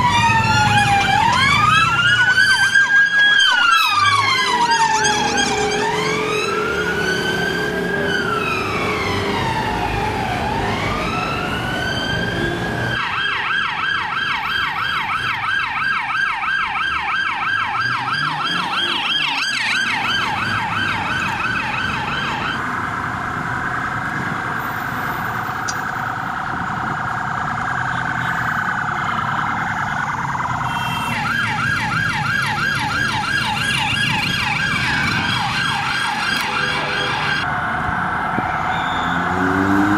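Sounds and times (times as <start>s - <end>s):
police siren: 0.0s - 39.9s
traffic noise: 0.0s - 39.9s.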